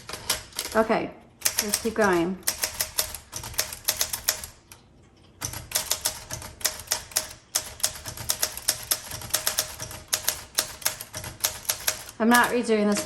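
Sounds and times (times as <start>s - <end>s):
manual typewriter clacking: 0.0s - 4.8s, 5.4s - 13.0s.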